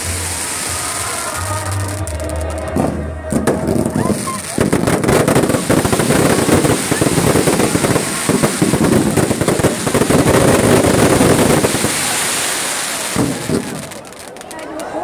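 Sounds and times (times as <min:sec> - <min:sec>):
fireworks crackling and bangs: 0:00.0 - 0:15.0.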